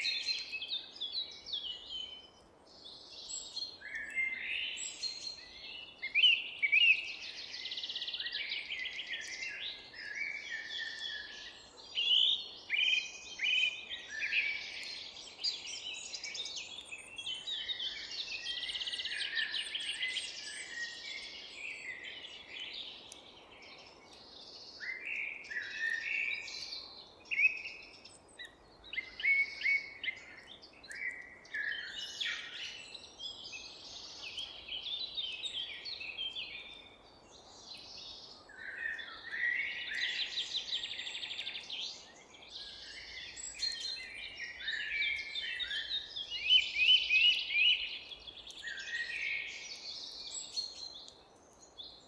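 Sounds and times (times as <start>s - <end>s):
songbirds chirping in chorus: 0.0s - 52.0s.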